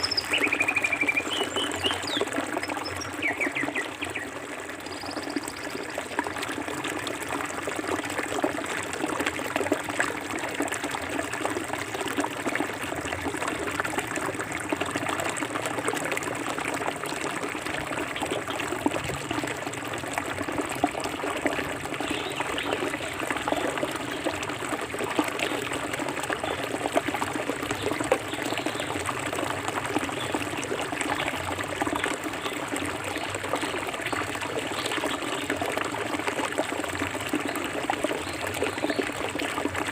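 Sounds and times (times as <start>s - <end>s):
river water trickling and splashing: 0.0s - 39.9s.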